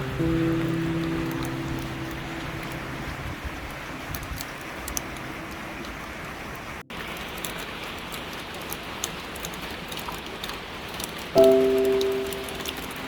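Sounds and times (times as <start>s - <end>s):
rain falling: 0.0s - 13.0s
raindrop impacts clicking: 0.0s - 13.0s.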